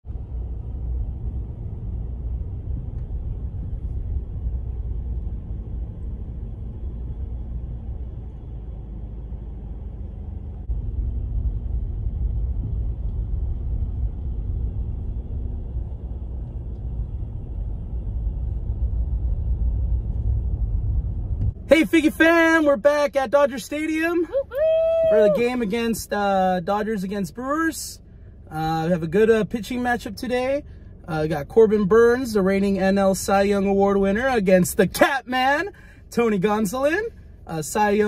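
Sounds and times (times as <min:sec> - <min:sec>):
car engine rumble: 0:00.0 - 0:38.0
road noise: 0:00.0 - 0:38.0.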